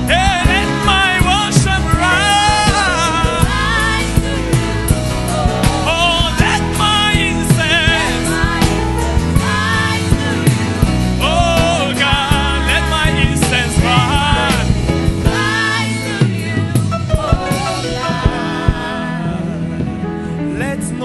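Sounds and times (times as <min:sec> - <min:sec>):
voices singing: 0:00.0 - 0:19.8
gospel band with drums: 0:00.0 - 0:21.0.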